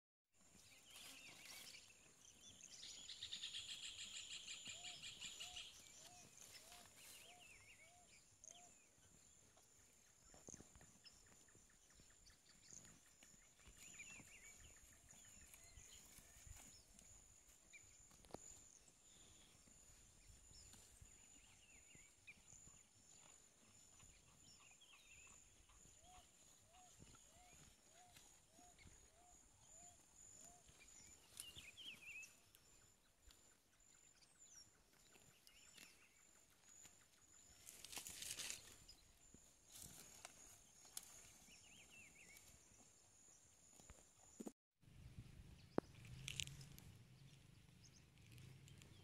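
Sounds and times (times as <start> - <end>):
birds calling and chirping: 0.6 - 44.5.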